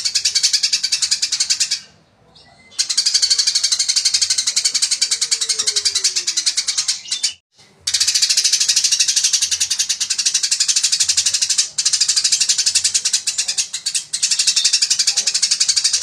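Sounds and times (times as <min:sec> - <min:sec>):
sparrow chirping rapidly: 0:00.0 - 0:16.0.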